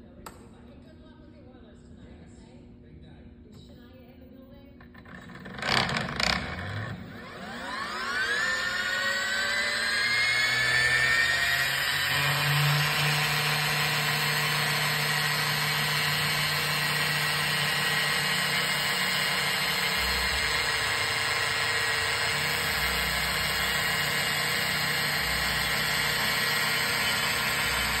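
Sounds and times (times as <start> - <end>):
concrete saw motor whining: 4.9 - 28.0.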